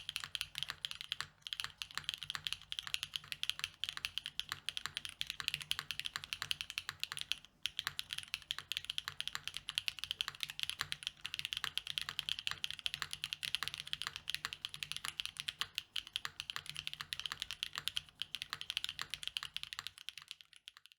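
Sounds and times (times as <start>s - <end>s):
mechanical keyboard typing: 0.0s - 20.9s.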